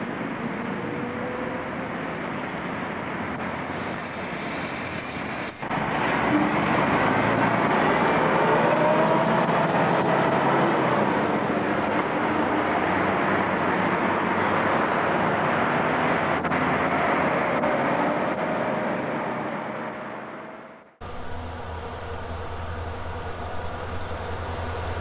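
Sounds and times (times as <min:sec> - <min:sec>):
bus passing with faint whine: 0:00.0 - 0:25.0
cars going by: 0:00.0 - 0:25.0.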